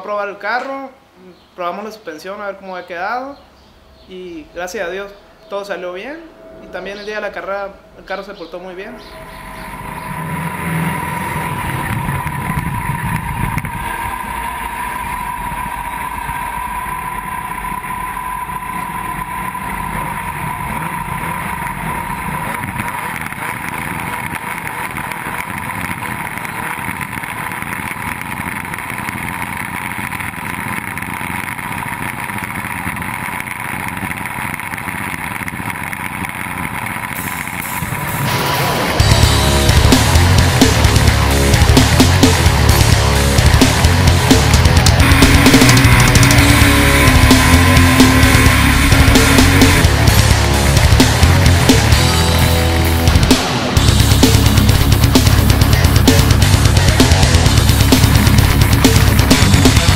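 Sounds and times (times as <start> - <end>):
steady high whine: 3.6 - 59.9
race car engine idling: 7.8 - 59.9.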